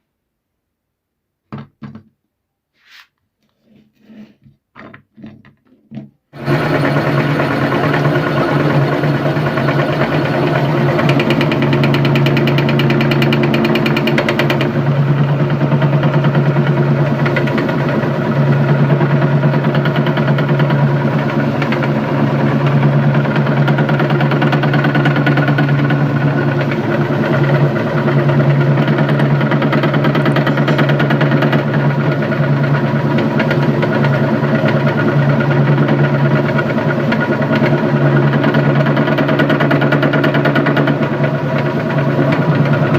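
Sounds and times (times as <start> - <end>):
meat grinder motor humming: 6.4 - 42.9
fast rattle: 6.5 - 42.9.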